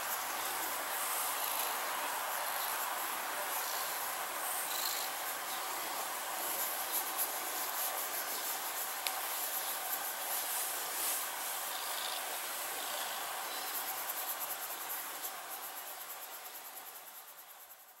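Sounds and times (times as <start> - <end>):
steady hissing noise: 0.0 - 18.0.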